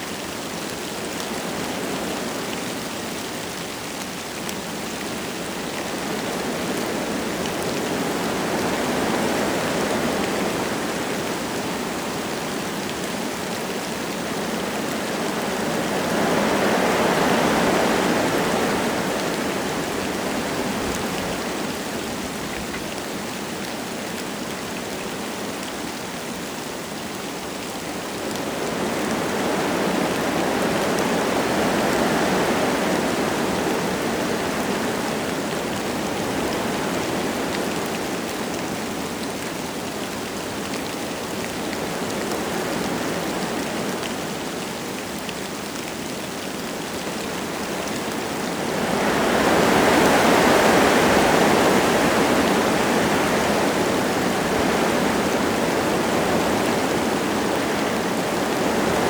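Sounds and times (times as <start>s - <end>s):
light rain falling: 0.0s - 59.0s
wind gusting through trees: 0.0s - 59.0s.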